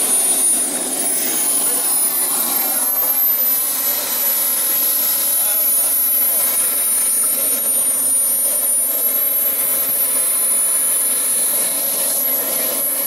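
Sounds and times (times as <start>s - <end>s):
exhaust rush: 0.0s - 12.4s
jet engine whine: 0.0s - 13.0s.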